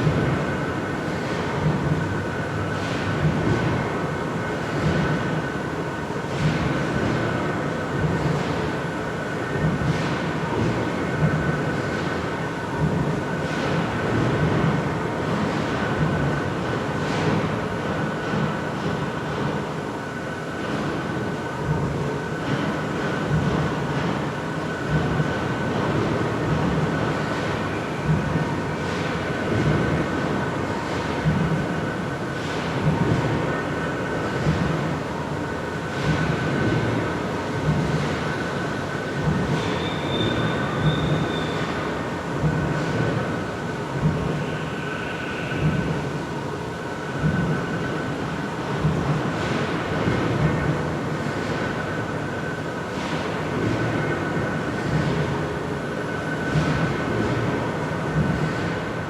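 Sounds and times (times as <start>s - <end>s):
factory machine rumble: 0.0s - 59.0s.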